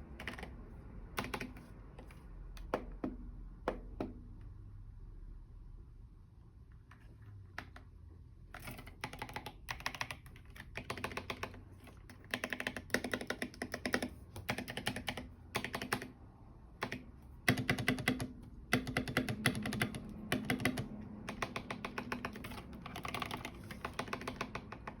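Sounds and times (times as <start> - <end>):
mechanical keyboard typing: 0.0 - 4.1, 8.5 - 25.0.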